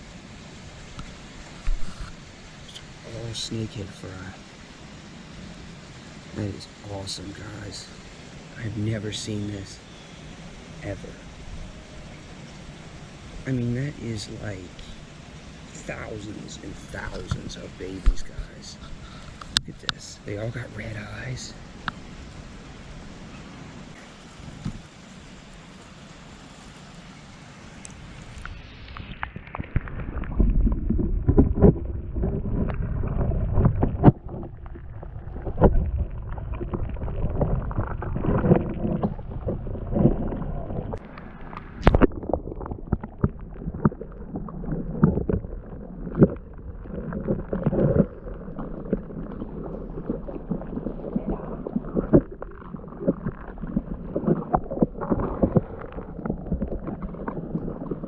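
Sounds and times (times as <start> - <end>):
underwater gurgling and sloshing: 0.0 - 58.0.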